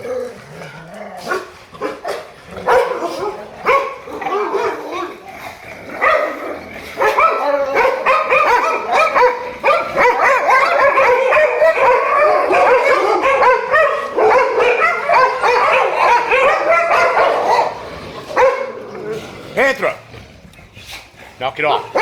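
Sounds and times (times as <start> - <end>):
dogs barking and squealing: 0.0 - 22.0.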